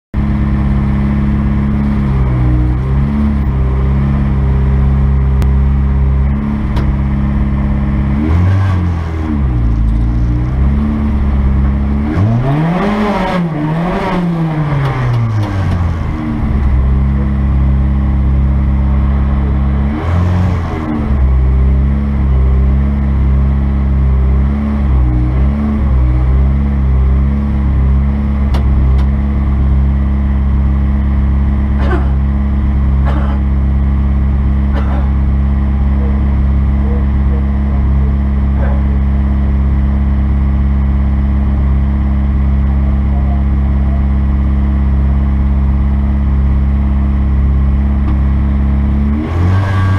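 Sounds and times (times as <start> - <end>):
car engine idling and revving: 0.2 - 49.9.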